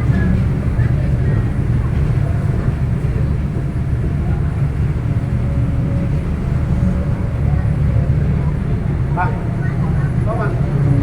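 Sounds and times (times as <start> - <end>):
ferry engines rumbling: 0.0 - 11.0.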